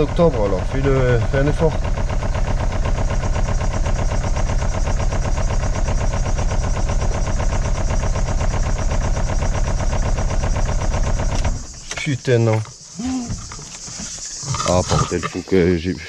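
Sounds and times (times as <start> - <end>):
diesel engine cranking: 0.0 - 16.0.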